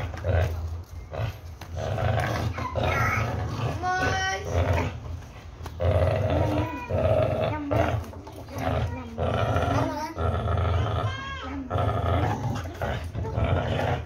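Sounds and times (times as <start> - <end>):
dog growling: 0.0 - 14.0.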